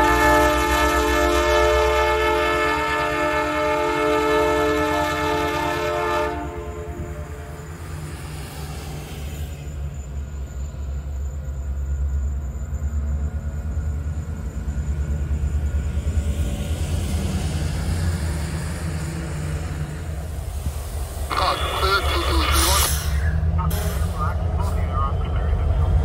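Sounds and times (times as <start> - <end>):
diesel locomotives rumbling: 0.0 - 26.0.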